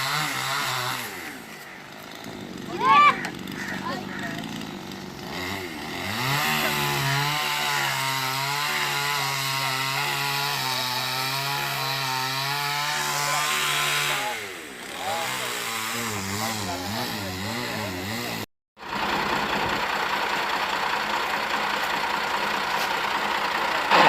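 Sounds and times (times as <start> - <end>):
chainsaw running: 0.0 - 24.0.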